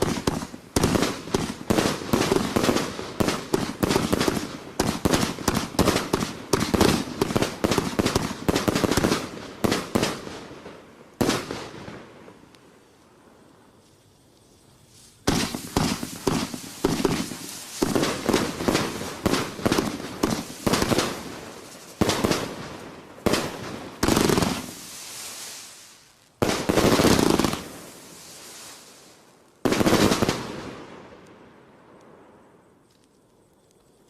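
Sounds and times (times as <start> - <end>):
firework cake bangs and crackling: 0.0 - 12.5, 15.0 - 30.8.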